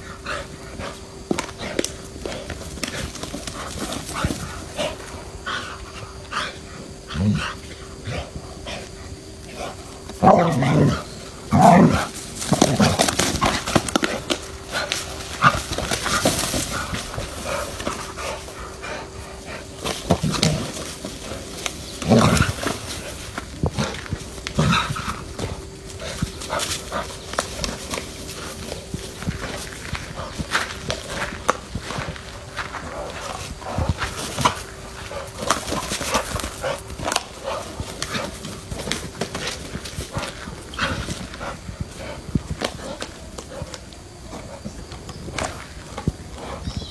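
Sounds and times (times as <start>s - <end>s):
scuffling and clicking noises: 0.0s - 46.9s.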